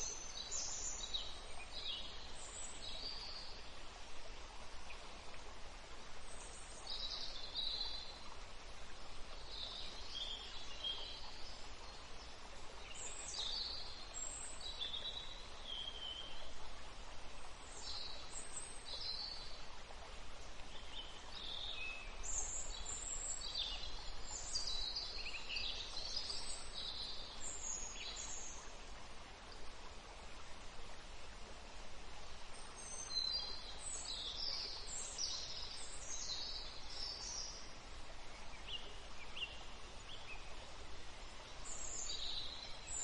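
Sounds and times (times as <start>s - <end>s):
soft outdoor hiss: 0.0s - 43.0s.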